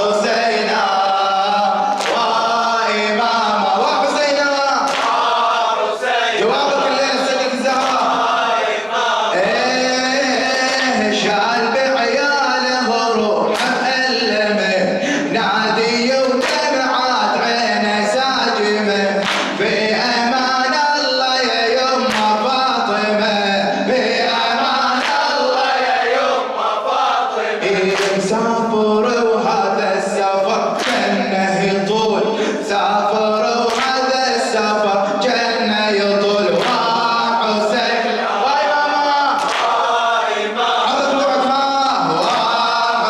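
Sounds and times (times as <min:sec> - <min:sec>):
men chanting a lament: 0:00.0 - 0:43.0.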